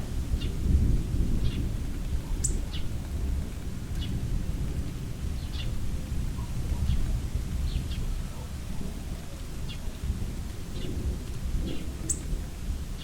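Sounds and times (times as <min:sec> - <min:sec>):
thunder rumbling: 0:00.0 - 0:07.9, 0:10.0 - 0:13.0
rain falling: 0:00.0 - 0:13.0.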